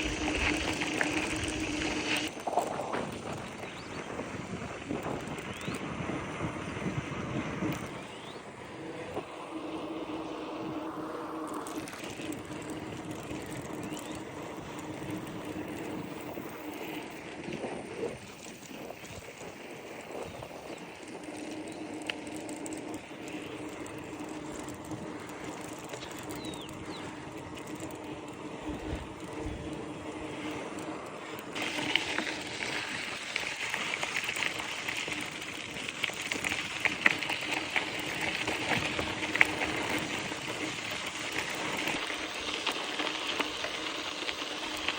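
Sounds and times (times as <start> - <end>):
bicycle rolling on trail: 0.0 - 44.9
tyres crackling on surface: 0.0 - 44.9.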